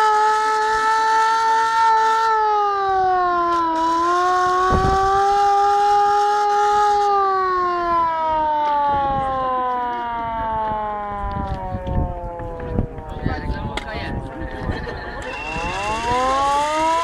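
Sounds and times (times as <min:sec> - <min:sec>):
hand-cranked siren wailing: 0:00.0 - 0:17.0.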